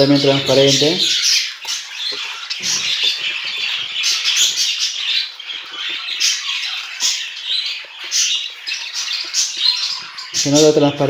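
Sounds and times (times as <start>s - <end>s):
budgerigars chattering and squawking: 0.0s - 11.0s.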